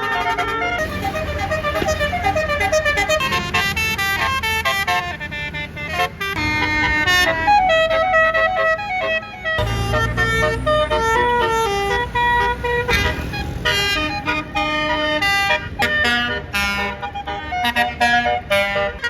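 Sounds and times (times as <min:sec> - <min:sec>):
bus engine running: 0:00.0 - 0:19.0
melodic bus horn: 0:00.0 - 0:19.0.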